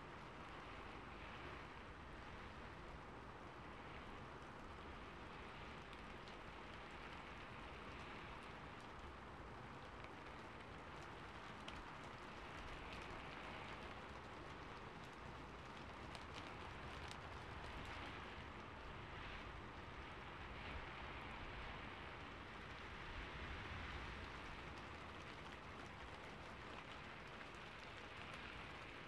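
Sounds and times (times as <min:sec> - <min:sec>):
light raindrop ticks: 0:00.0 - 0:29.0
rain on a rooftop: 0:00.0 - 0:29.0.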